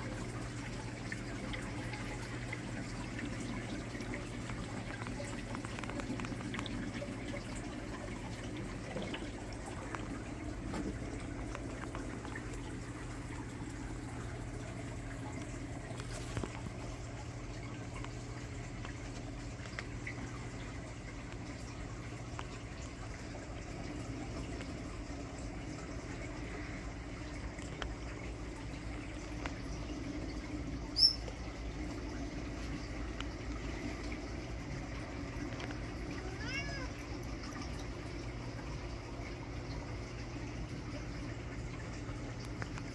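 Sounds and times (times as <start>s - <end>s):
low steady hum: 0.0s - 42.9s
small crackling splashes: 0.0s - 42.9s
water trickling and bubbling: 0.0s - 42.9s.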